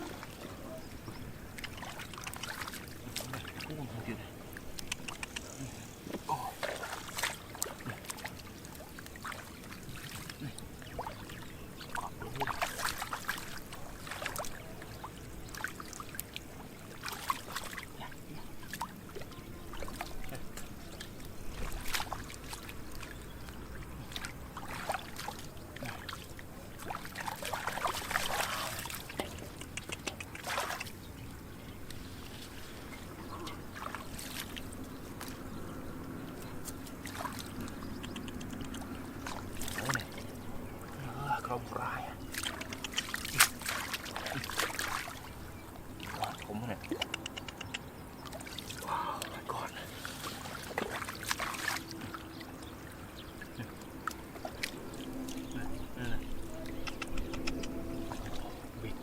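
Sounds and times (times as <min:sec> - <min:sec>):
shallow water splashing: 0:00.0 - 0:59.0.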